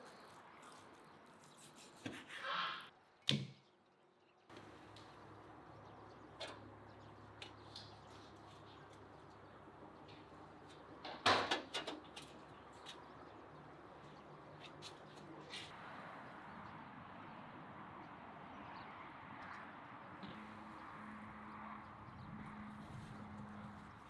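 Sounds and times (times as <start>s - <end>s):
outdoor hum: 0.0s - 24.0s.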